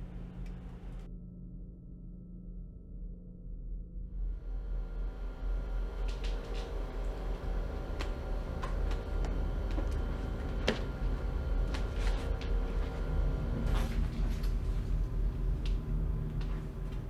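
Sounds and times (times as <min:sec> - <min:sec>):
low steady hum: 0:00.0 - 0:01.1, 0:04.1 - 0:17.0.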